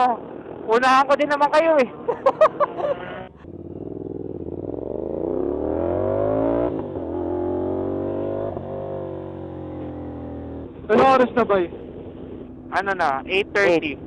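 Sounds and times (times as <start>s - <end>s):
motorcycle engine accelerating: 2.4s - 14.0s.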